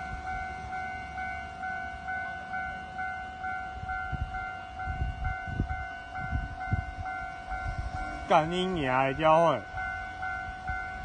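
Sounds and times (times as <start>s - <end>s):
level crossing alarm ringing: 0.0s - 11.0s.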